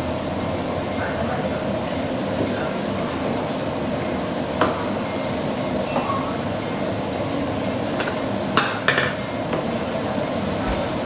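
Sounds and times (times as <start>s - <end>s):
kitchen fan hum: 0.0s - 11.0s.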